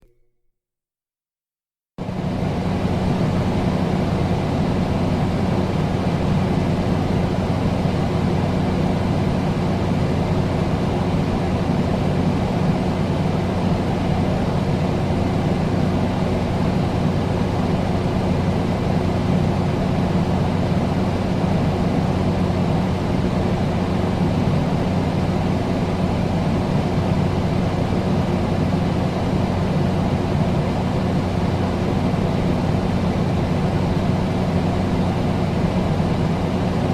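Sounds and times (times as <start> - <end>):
air conditioner rushing air: 2.0 - 36.9.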